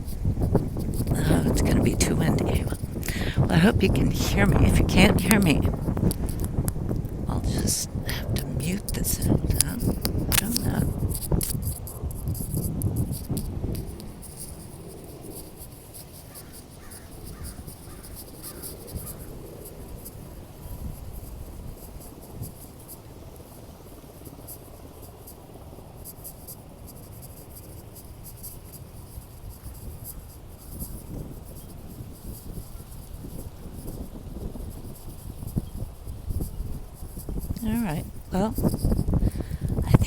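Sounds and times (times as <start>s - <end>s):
wind buffeting microphone: 0.0s - 26.0s, 28.6s - 40.0s.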